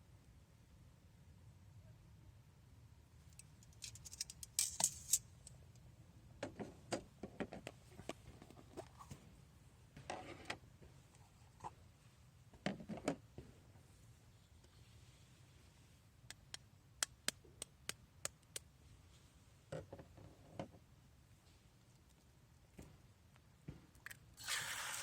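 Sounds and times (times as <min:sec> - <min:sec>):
low steady background: 0:00.0 - 0:24.8.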